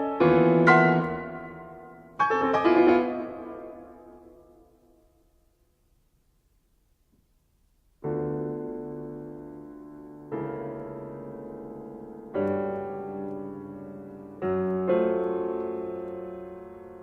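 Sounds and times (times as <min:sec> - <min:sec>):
slow piano chords: 0:00.0 - 0:05.4, 0:08.0 - 0:17.0.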